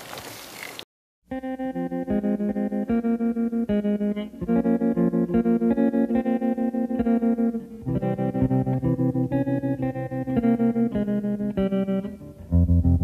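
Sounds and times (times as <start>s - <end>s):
pulsing electric guitar chords: 1.3s - 13.0s.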